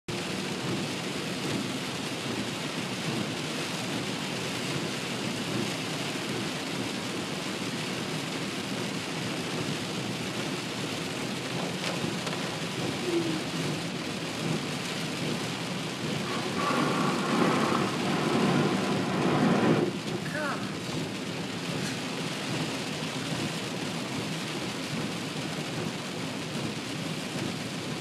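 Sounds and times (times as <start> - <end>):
heavy rain on car windshield: 0.1 - 28.0.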